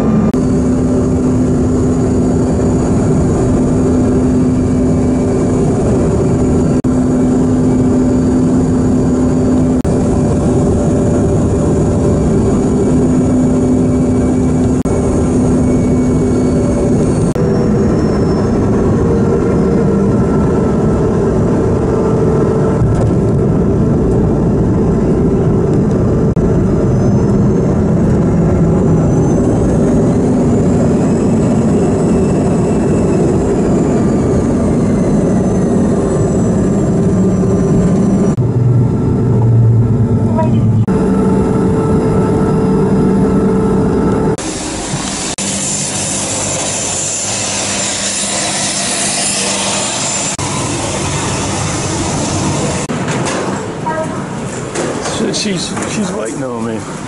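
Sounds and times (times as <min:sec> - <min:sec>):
airliner cabin engine and air rush: 0:00.0 - 0:57.0
droning hums: 0:00.0 - 0:57.0.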